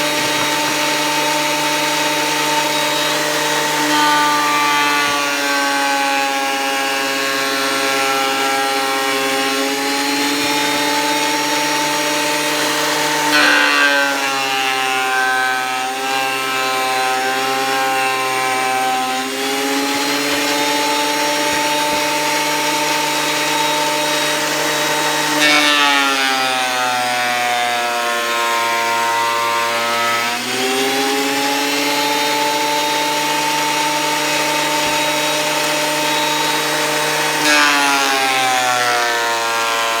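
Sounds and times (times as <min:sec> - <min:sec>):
planer cutting wood board: 0:00.0 - 0:40.0
thickness planer motor whine: 0:00.0 - 0:40.0.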